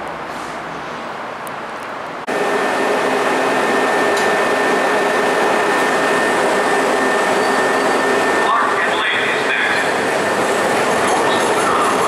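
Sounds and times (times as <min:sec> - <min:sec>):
train car hum and whine: 0:00.0 - 0:12.0.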